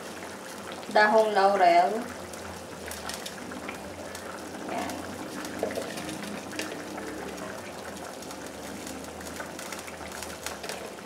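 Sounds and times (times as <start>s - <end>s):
broth bubbling in a frying pan: 0.0s - 11.0s.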